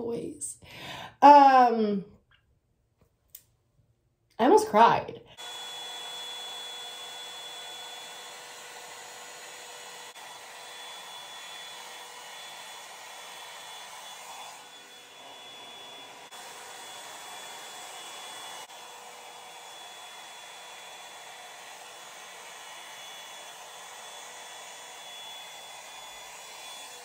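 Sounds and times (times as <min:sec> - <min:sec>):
hair dryer running: 0:05.3 - 0:27.0.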